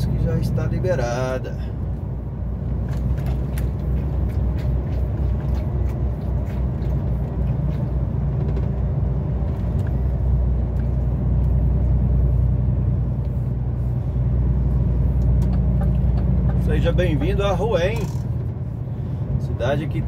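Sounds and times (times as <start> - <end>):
diesel truck engine drone: 0.0 - 20.0
road noise: 0.0 - 20.0.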